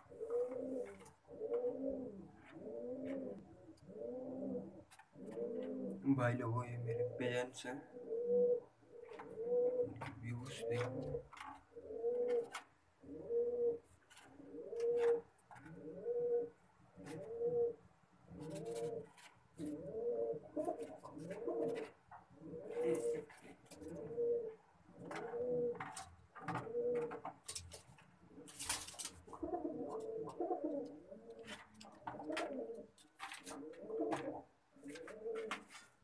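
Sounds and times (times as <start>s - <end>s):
pigeons cooing: 0.0s - 27.6s, 28.3s - 35.8s.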